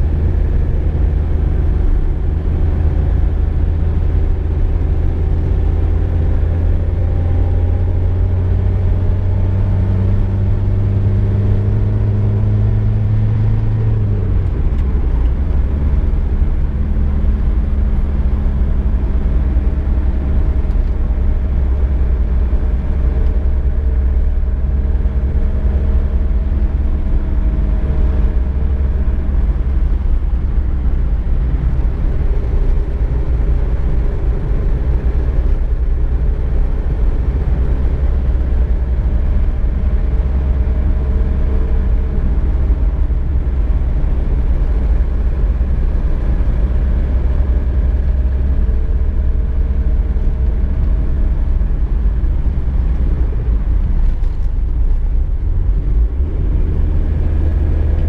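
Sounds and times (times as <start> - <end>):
car interior road and engine rumble: 0.0 - 58.0.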